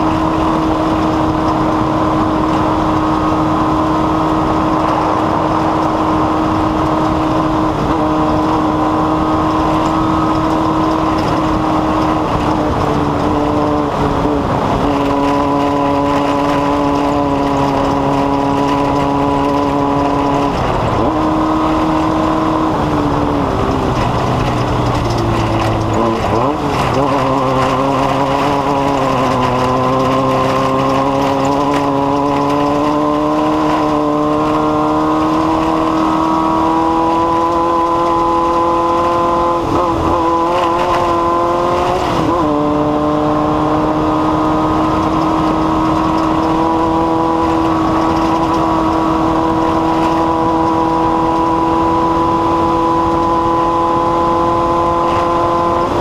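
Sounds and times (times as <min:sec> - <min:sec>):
race vehicle engine revving high: 0:00.0 - 0:56.0.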